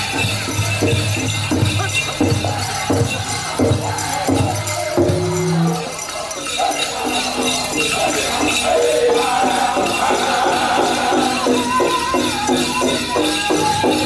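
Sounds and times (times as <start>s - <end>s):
dancers' bells jingling: 0.0s - 14.0s
drum group singing: 0.0s - 14.0s
steady drumbeat: 0.0s - 14.0s.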